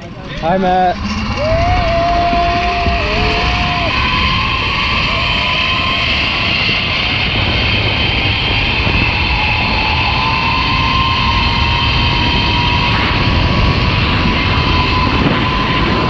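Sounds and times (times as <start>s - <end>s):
wind rush on microphone: 0.0s - 16.0s
zipline pulleys whining on cable: 0.0s - 16.0s.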